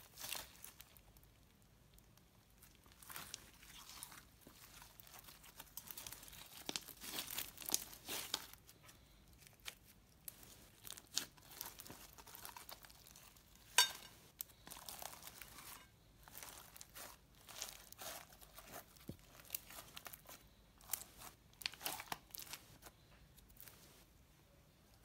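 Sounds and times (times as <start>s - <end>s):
slime sticky crackling: 0.0s - 23.8s.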